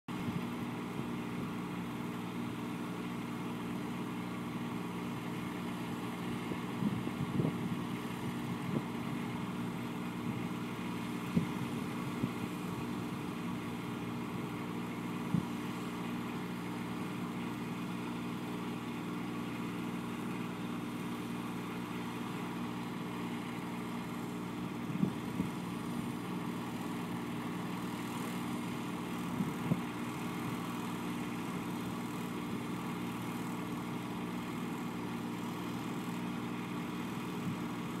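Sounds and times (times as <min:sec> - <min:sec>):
engine running steadily: 0:00.1 - 0:38.0.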